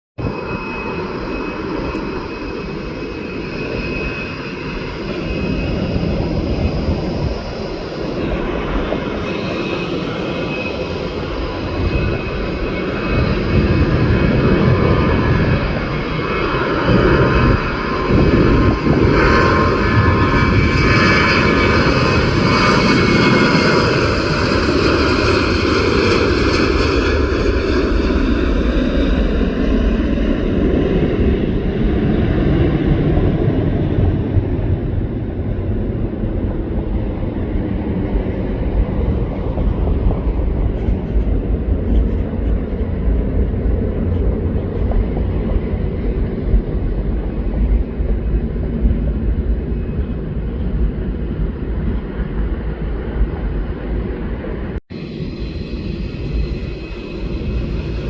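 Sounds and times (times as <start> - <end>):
jet engines roaring with high whine: 0.2 - 58.0.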